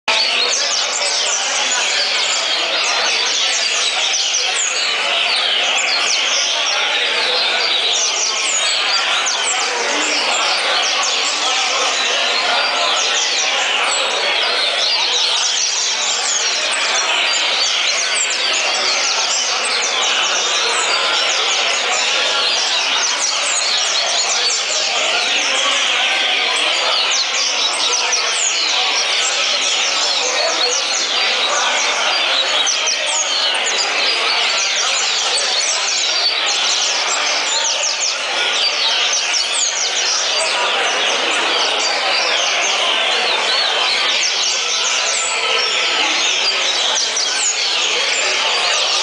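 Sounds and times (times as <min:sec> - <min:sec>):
chorus of caged birds singing: 0:00.0 - 0:49.0.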